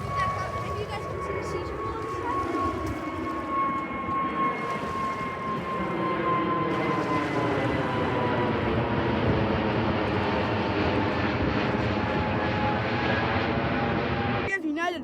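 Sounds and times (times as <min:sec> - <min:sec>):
jet airliner engines passing: 0:00.0 - 0:15.0.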